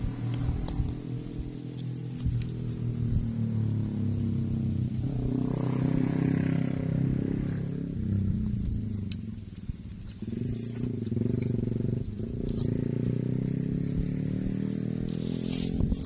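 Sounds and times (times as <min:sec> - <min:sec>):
motor engine running: 0:00.0 - 0:16.0.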